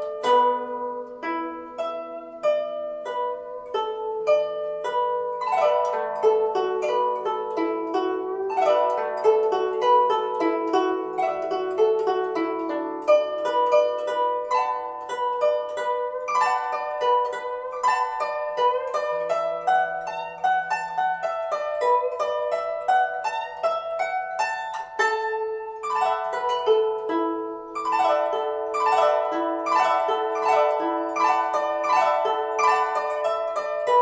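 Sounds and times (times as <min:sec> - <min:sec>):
plucked zither melody: 0:00.0 - 0:34.0.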